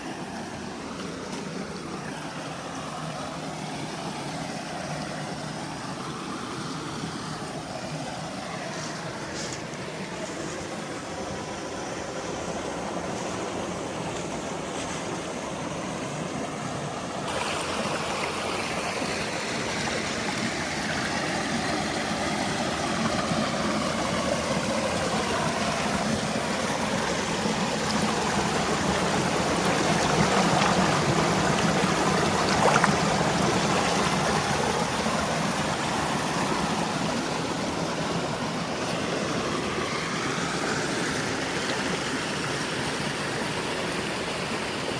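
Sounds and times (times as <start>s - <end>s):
creek water rushing: 0.0s - 44.9s.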